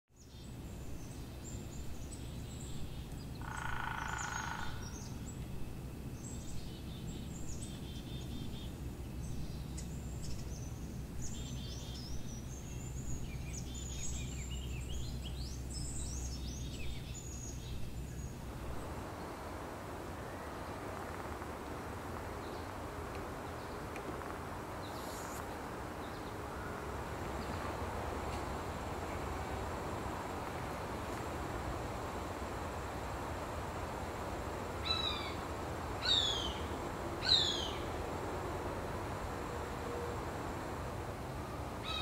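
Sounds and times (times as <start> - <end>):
small songbirds chirping: 0.1 - 40.9
low steady rumble: 0.3 - 42.0.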